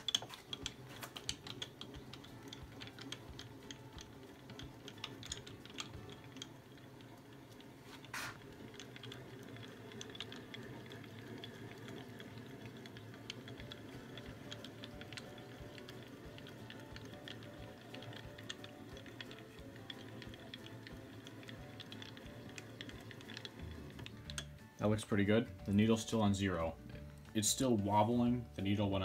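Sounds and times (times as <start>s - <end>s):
mill table clicks and rattles: 0.0s - 25.1s.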